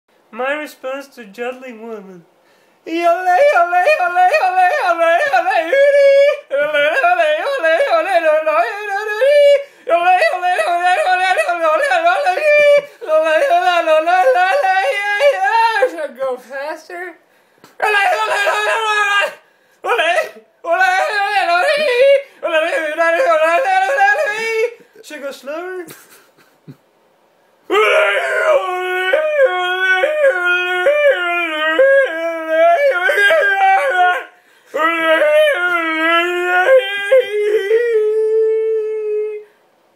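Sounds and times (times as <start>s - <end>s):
man yodeling fast: 2.9s - 17.2s, 17.8s - 26.1s, 27.7s - 39.5s.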